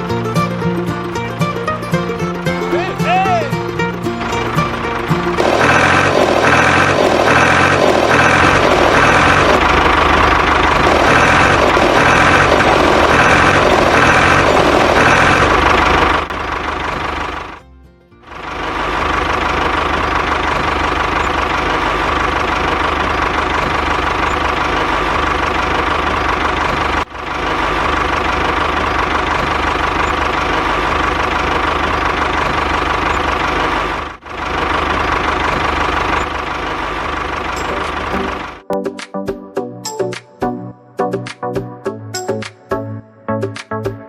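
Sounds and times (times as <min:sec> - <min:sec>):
small engine running: 0:00.0 - 0:17.6, 0:18.3 - 0:38.6.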